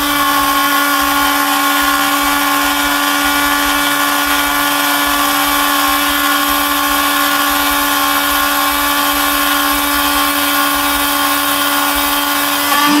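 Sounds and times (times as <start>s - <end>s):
high-speed spindle whine: 0.0s - 13.0s.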